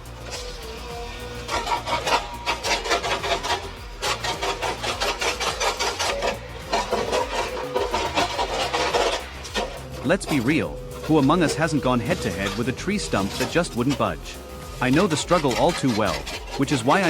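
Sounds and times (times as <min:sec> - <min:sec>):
quick percussive beat: 0:00.0 - 0:17.0
steady held tones: 0:00.0 - 0:17.0.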